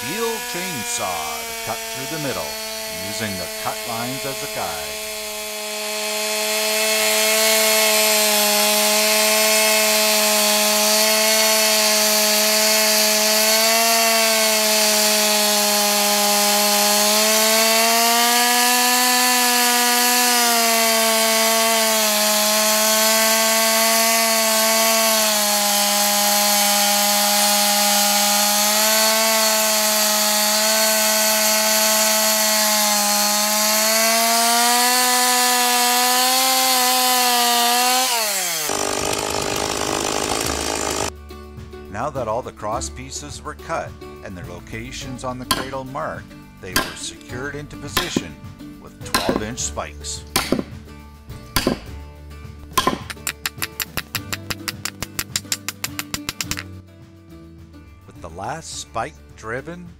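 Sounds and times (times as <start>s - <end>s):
chainsaw cutting wood: 0.0s - 41.2s, 43.7s - 56.8s.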